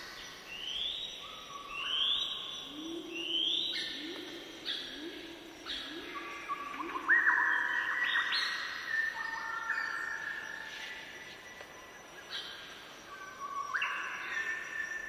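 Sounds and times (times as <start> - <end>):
birds singing whistled notes: 0.0 - 15.0.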